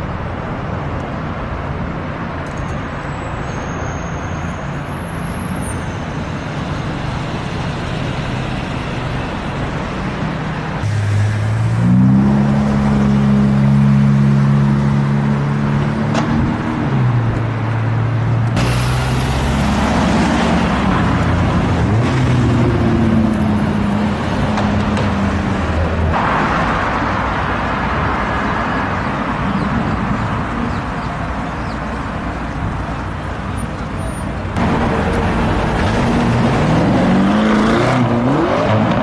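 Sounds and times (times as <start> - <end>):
traffic noise: 0.0 - 39.0.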